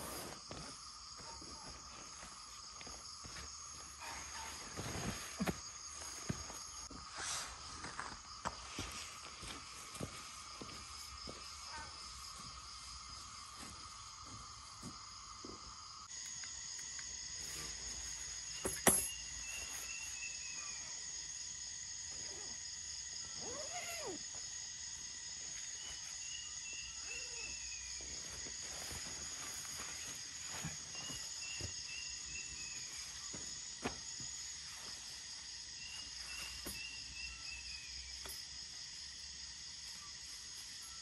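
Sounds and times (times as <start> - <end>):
high insect chorus: 0.0 - 41.0.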